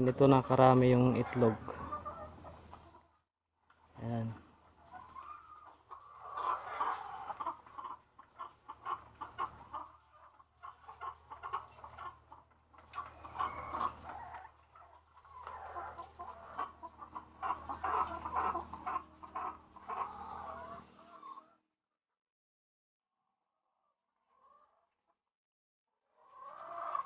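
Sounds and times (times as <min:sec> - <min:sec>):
hens clucking: 0:00.0 - 0:03.2, 0:03.8 - 0:21.6, 0:26.2 - 0:27.0.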